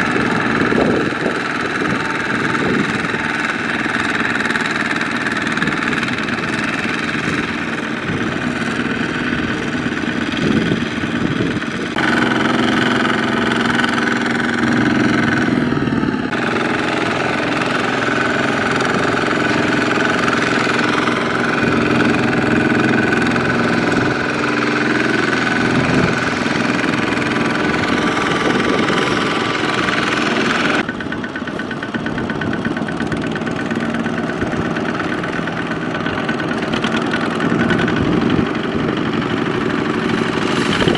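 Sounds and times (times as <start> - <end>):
tractor diesel engines chugging: 0.0 - 40.9.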